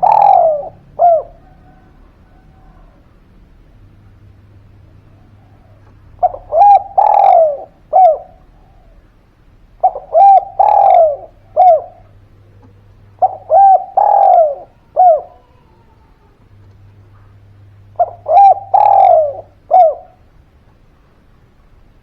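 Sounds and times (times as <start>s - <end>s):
dove cooing: 0.0s - 3.4s, 4.8s - 9.2s, 9.8s - 20.4s.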